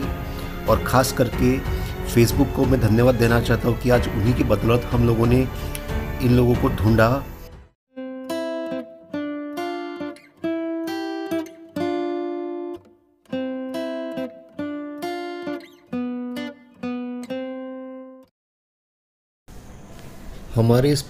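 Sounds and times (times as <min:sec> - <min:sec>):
acoustic guitar chords: 0:00.0 - 0:18.3.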